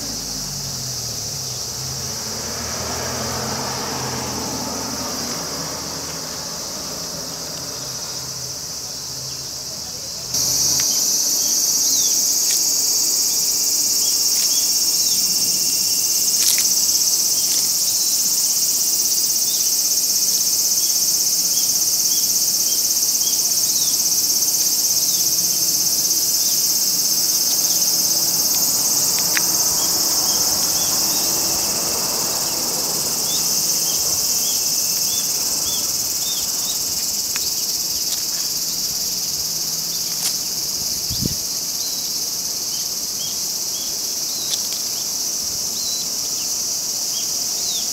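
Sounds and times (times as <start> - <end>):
cicadas droning: 0.0 - 47.9.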